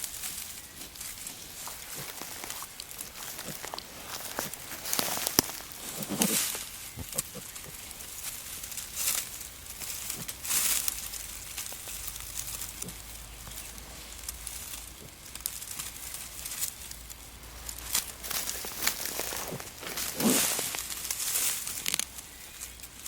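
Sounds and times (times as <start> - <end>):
rustling leaves and twigs: 0.0 - 23.0
twigs snapping: 0.0 - 23.0.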